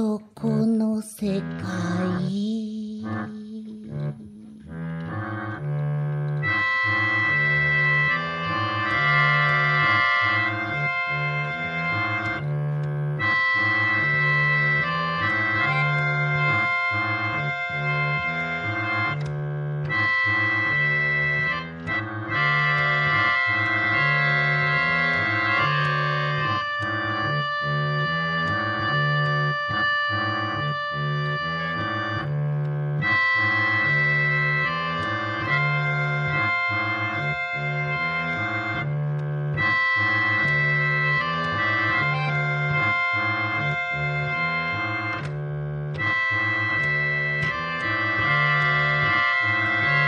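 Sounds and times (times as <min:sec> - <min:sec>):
organ music: 0:01.4 - 0:50.0.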